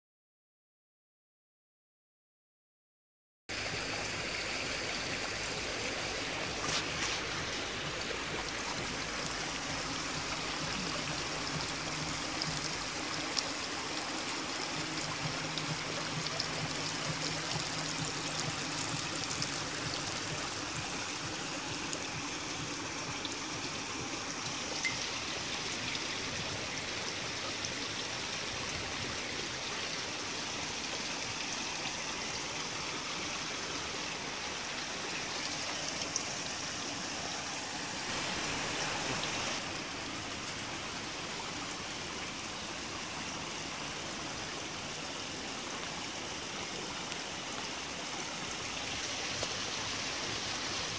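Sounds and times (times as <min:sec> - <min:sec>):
running water: 0:03.5 - 0:50.9.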